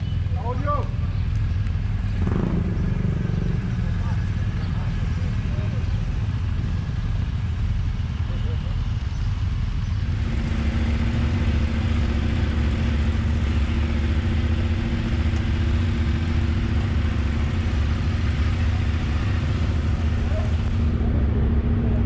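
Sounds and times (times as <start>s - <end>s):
motorcycle engines idling: 0.0s - 22.0s.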